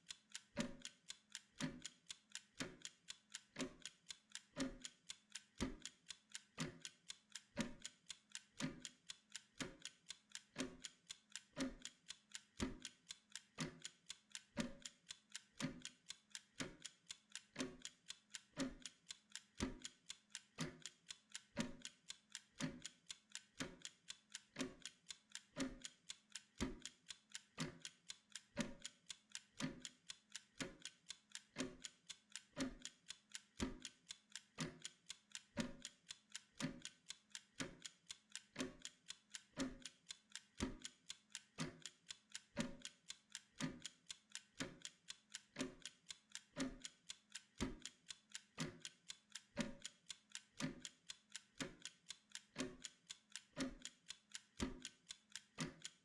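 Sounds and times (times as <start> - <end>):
kitchen timer ticking: 0.0 - 56.0.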